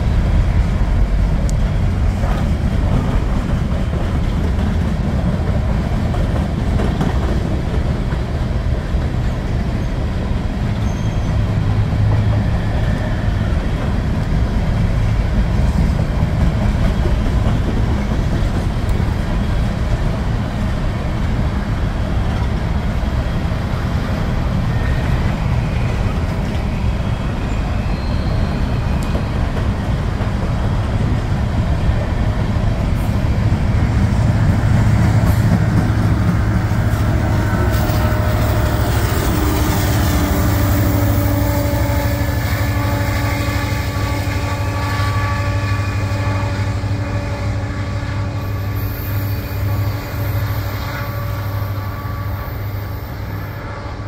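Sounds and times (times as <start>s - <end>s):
train of empty cars rolling: 0.0s - 54.0s.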